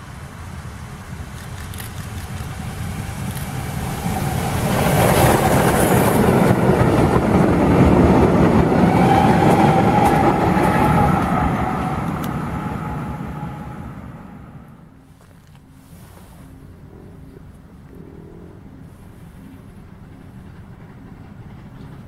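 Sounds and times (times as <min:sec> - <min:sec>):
steam train passing: 0:00.0 - 0:22.0.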